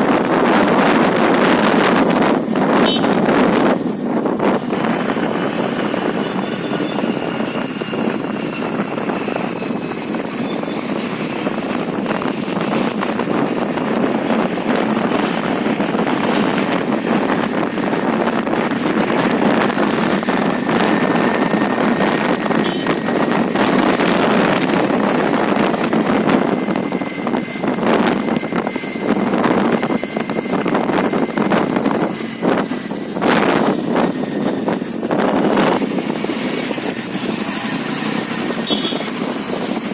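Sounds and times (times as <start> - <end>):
scooter engine running: 0.0 - 39.9
wind on microphone: 0.0 - 39.9.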